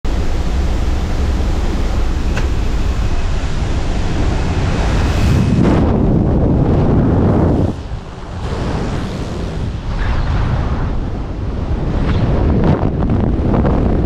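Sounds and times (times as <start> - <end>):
aircraft engine noise: 0.0 - 14.0
wind buffeting microphone: 0.1 - 14.0
wind rushing: 0.1 - 14.0.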